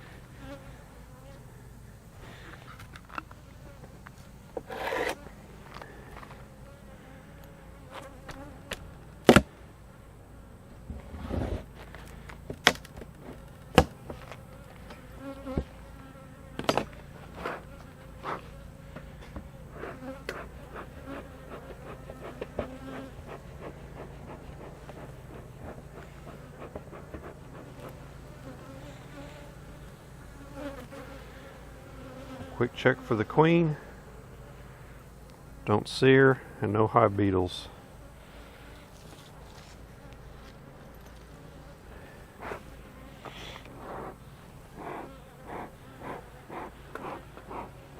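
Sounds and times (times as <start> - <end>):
honey bees buzzing: 0.0 - 47.9.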